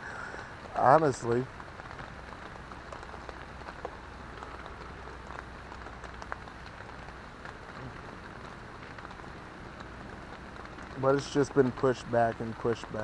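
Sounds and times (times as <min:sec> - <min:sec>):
rain on a tent: 0:00.0 - 0:13.0
raindrop ticks: 0:00.0 - 0:13.0.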